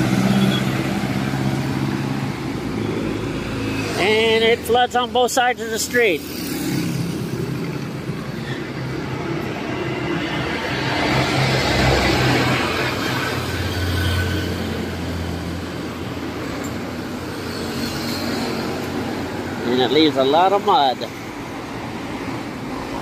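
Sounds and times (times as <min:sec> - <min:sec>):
vehicles passing on wet street: 0:00.0 - 0:23.0.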